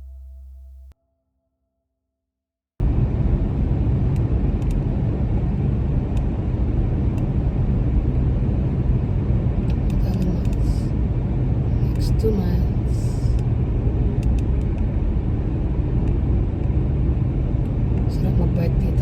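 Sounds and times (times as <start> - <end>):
car engine: 0.0 - 0.9, 2.8 - 19.0
road and tyre noise: 2.8 - 19.0.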